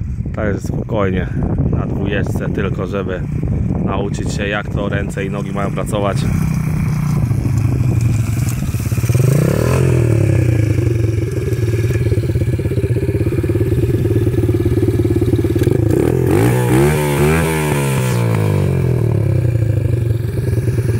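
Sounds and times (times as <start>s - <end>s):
dirt bike engine running: 1.0s - 20.9s.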